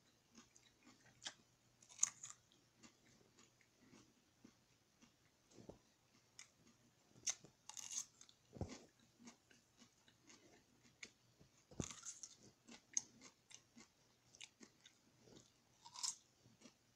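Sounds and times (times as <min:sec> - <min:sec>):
person chewing potato: 0:00.0 - 0:16.9.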